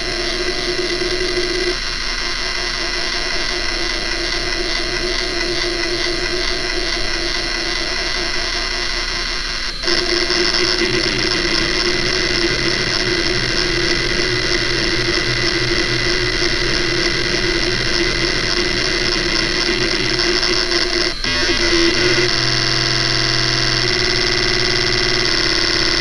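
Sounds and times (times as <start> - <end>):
spinning drive tones: 0.0 - 26.0.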